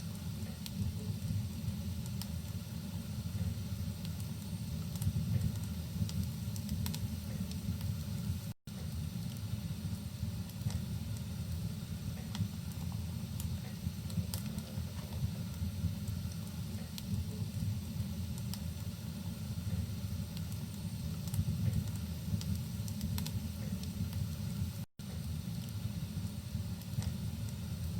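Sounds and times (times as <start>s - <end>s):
fire crackling and popping: 0.0s - 27.9s.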